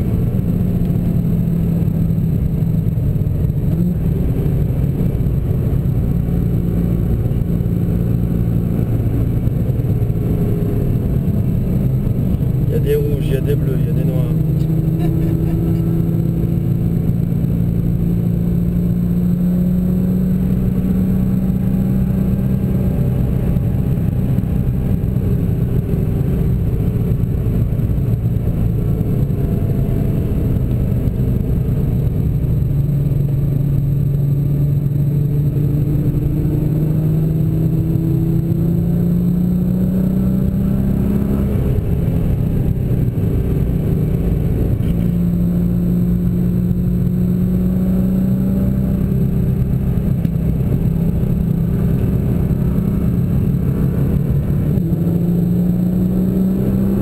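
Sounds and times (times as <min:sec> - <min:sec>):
car engine cruising: 0:00.0 - 0:57.0
tyre and road noise: 0:00.0 - 0:57.0.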